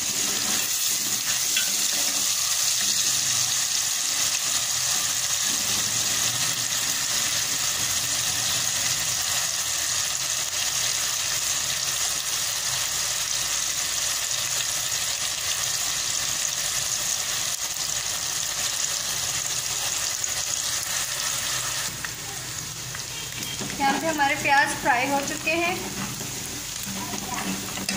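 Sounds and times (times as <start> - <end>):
onions sizzling in hot oil: 0.0 - 27.9.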